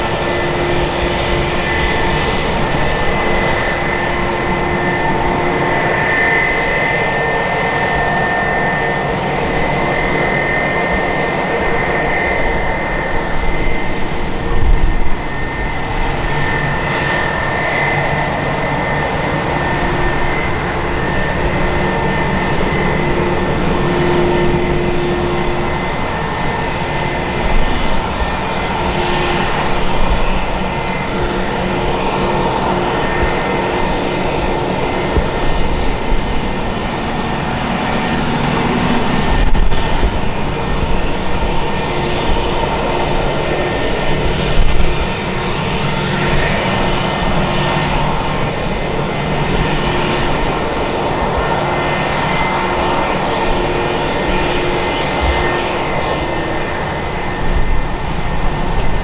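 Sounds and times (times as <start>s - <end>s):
jet engine whine: 0.0s - 59.0s.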